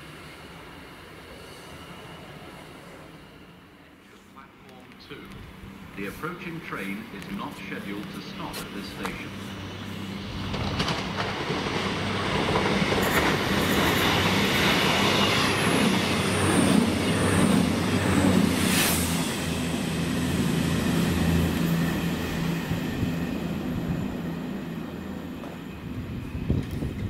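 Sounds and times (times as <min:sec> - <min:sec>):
train engine hum: 0:00.0 - 0:27.0
train wheels rumbling on rails: 0:04.6 - 0:27.0.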